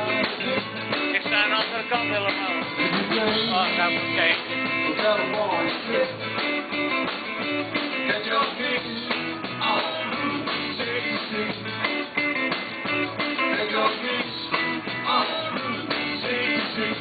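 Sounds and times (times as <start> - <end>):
electric guitar: 0.0 - 17.0
rock and roll band playing: 0.0 - 17.0.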